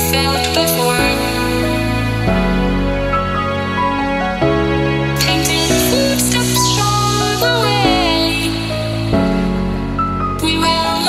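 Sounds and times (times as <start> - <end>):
background music with sustained chords: 0.0 - 11.0.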